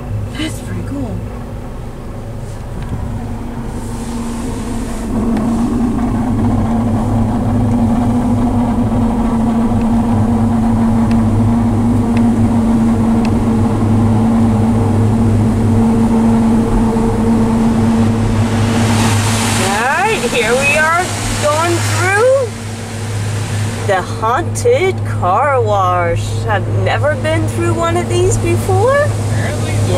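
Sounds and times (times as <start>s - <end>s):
car wash machinery humming: 0.0s - 29.9s.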